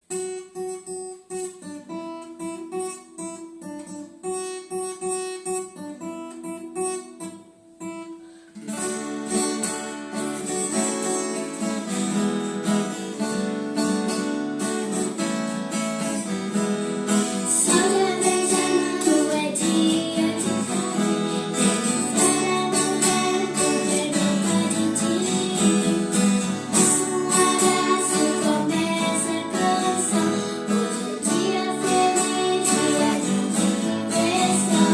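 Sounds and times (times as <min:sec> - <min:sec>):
acoustic guitar picking and strumming: 0:00.0 - 0:34.9.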